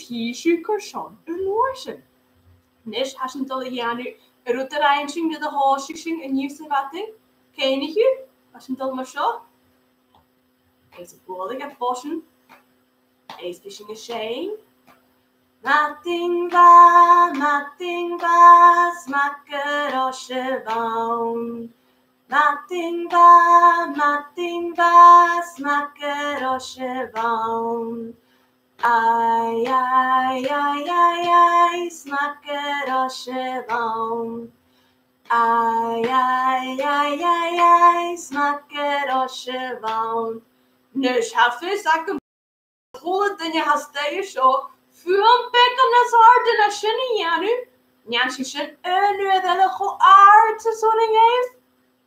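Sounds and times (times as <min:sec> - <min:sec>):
woman singing unaccompanied: 0:00.0 - 0:02.0, 0:02.9 - 0:09.4, 0:10.9 - 0:12.2, 0:13.3 - 0:14.6, 0:15.6 - 0:28.2, 0:28.8 - 0:34.6, 0:35.2 - 0:42.2, 0:43.0 - 0:51.6.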